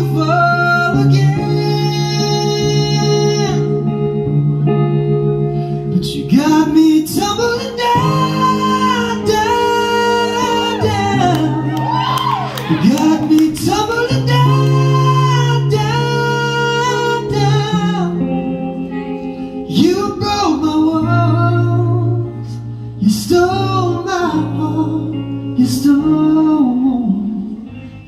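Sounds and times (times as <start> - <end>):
man singing into microphone: 0.0 - 3.8, 5.9 - 18.3, 19.7 - 27.7
acoustic guitar: 0.0 - 28.0.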